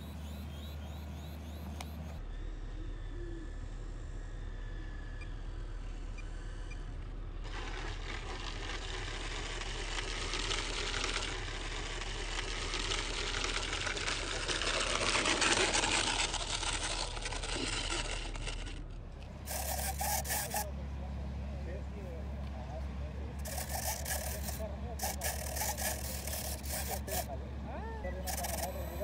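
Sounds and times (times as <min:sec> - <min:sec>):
model plane propellers whirring: 0:00.0 - 0:22.4, 0:23.2 - 0:29.0.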